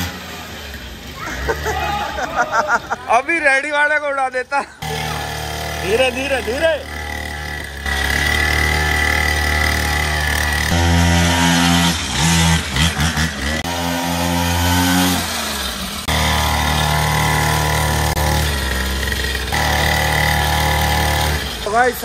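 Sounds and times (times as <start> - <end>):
small two-stroke engine revving: 0.0 - 2.1, 4.8 - 21.8.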